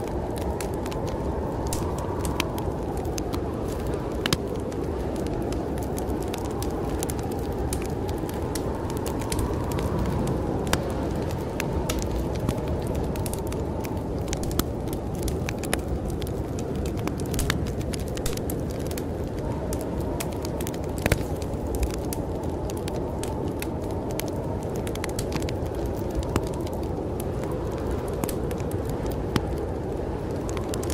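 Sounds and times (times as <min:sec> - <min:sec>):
storm wind rushing: 0:00.0 - 0:30.9
wood fire crackling and popping: 0:00.0 - 0:30.9.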